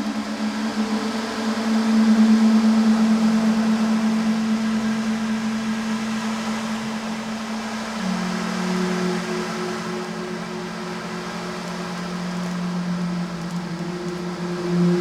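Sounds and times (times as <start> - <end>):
sea noise: 0.0 - 15.0
singing bowl humming tone: 0.0 - 15.0.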